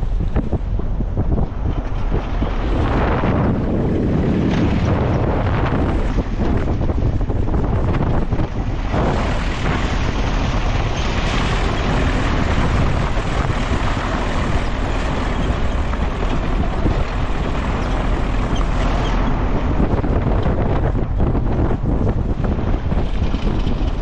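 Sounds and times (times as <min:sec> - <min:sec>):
van engine and road noise: 0:00.0 - 0:24.0
wind buffeting microphone: 0:00.0 - 0:24.0.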